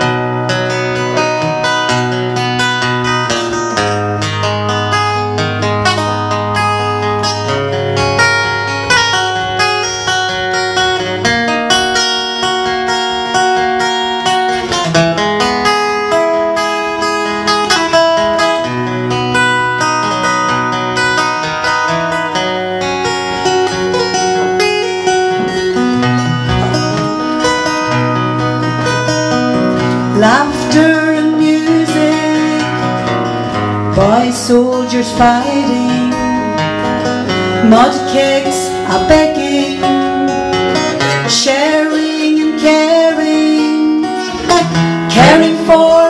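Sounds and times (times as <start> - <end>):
acoustic guitars strumming: 0.0 - 46.0.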